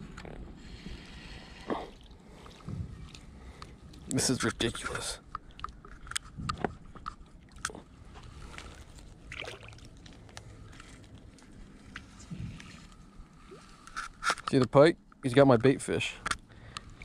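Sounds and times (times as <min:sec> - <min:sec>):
water sloshing: 0:00.7 - 0:14.4.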